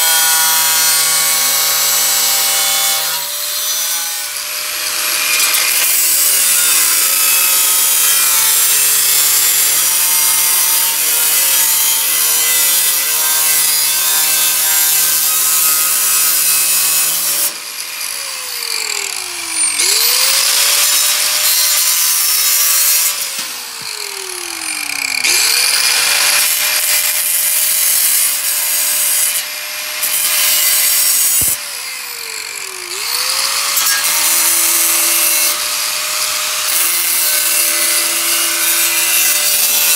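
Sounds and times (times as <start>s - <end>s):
power tool cutting sheet metal: 0.0s - 39.9s.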